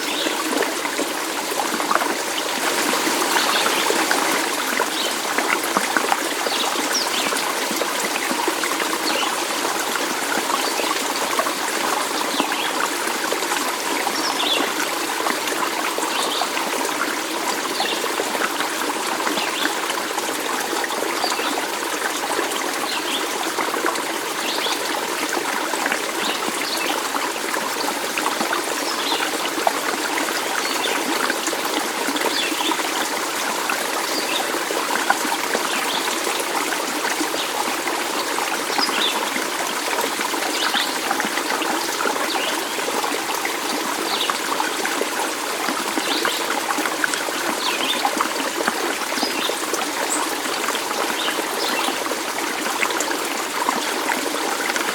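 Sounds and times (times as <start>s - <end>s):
stream water trickling over stones: 0.0s - 54.9s.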